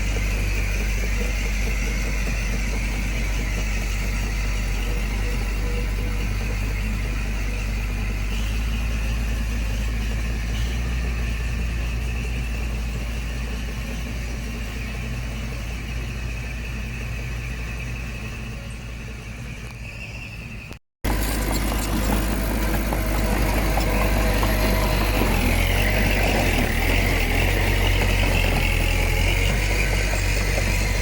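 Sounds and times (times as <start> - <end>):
heavy diesel engine rumbling: 0.0 - 31.0.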